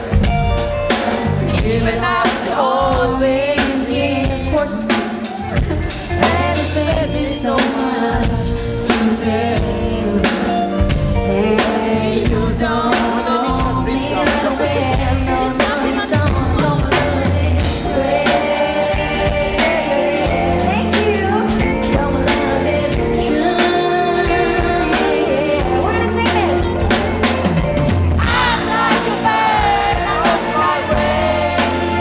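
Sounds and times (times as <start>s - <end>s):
live pop band playing: 0.0s - 32.0s
person singing: 1.5s - 32.0s.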